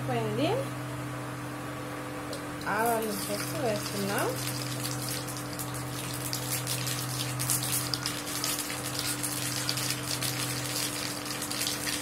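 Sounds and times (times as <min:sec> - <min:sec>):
steady low hum: 0:00.0 - 0:12.0
seeds crackling in hot oil: 0:02.3 - 0:12.0.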